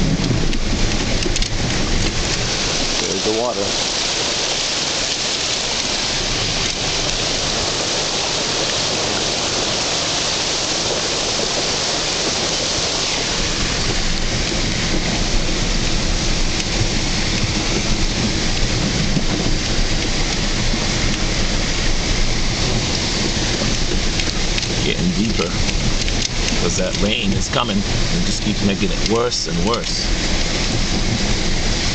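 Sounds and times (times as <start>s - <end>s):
low uneven rumble: 0.0s - 31.9s
water splashing against vehicle: 0.0s - 31.9s.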